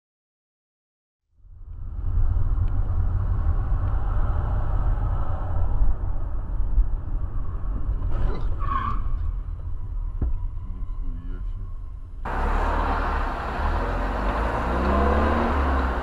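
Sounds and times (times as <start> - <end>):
car engine and tyre rumble: 1.4 - 16.0.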